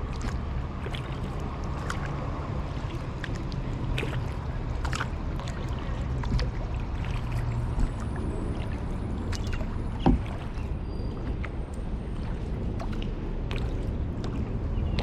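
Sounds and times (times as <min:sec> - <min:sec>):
paddle splashes and drips: 0:00.0 - 0:15.0
wind and water rumble: 0:00.0 - 0:15.0.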